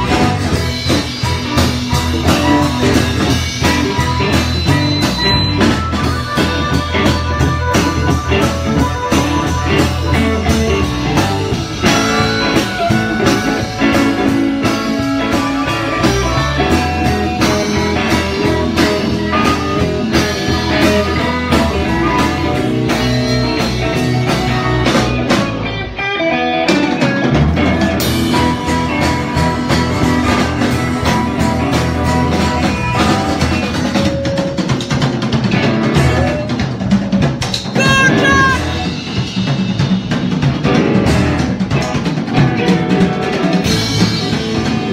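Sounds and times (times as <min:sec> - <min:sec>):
steady drum beat: 0:00.0 - 0:25.8, 0:26.7 - 0:44.9
electric guitar: 0:00.0 - 0:44.9
live rock band playing: 0:00.0 - 0:44.9.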